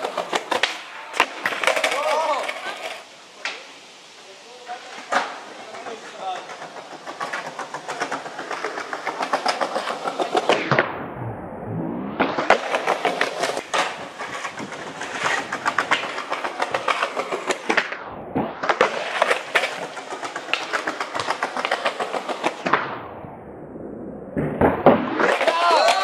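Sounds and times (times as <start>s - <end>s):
skateboard clacks: 0.0s - 3.6s, 4.8s - 10.8s, 12.2s - 22.8s, 24.6s - 26.0s
skateboard wheels rolling on pavement: 0.0s - 26.0s.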